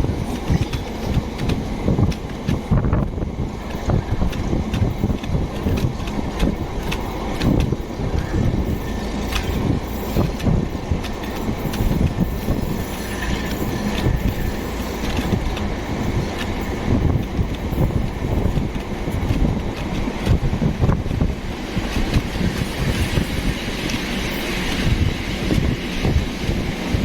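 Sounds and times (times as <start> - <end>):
diesel locomotive rumble: 0.0 - 27.0.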